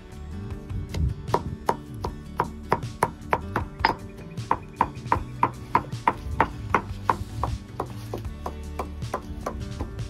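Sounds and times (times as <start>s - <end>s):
pestle striking marble mortar: 0.9s - 10.0s.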